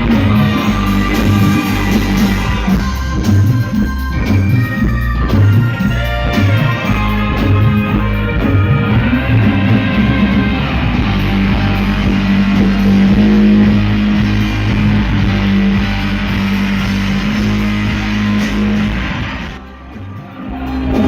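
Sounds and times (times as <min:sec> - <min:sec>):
heavy long-held bass note: 0:00.0 - 0:21.0
rock music with guitar and drums: 0:00.0 - 0:21.0.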